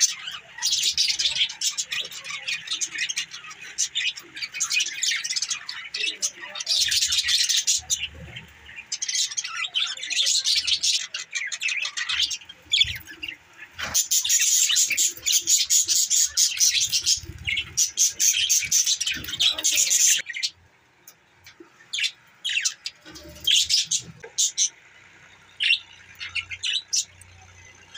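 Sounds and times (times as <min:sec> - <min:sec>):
budgerigars chattering and chirping: 0:00.0 - 0:20.6, 0:21.4 - 0:24.8, 0:25.4 - 0:27.9.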